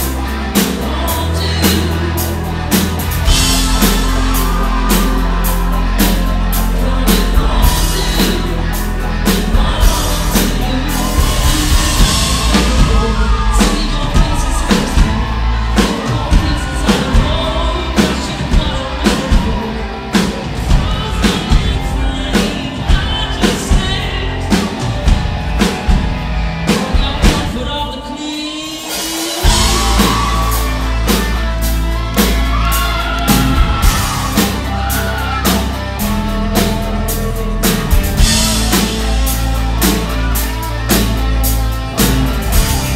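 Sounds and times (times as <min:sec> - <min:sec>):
lead vocals singing: 0:00.0 - 0:41.1
live rock band playing: 0:00.0 - 0:42.9.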